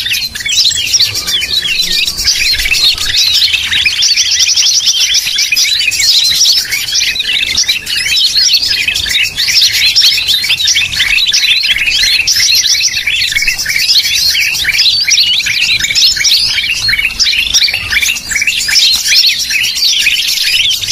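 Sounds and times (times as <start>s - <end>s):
bird chirping and twittering: 0.0s - 20.9s.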